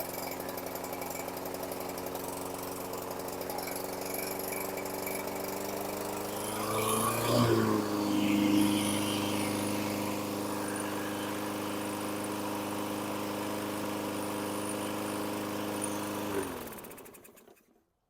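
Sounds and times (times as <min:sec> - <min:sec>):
engine spinning down: 0:00.0 - 0:17.5
lawn mower engine running: 0:00.0 - 0:17.6.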